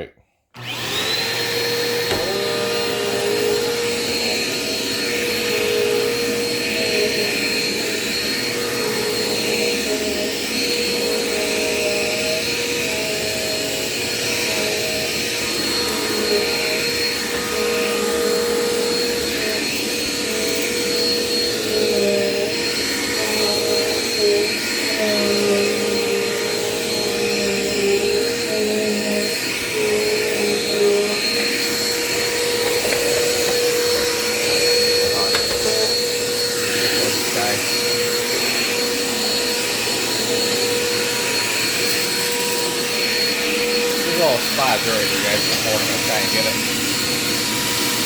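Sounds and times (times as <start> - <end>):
vacuum cleaner motor whine: 0.6 - 48.0.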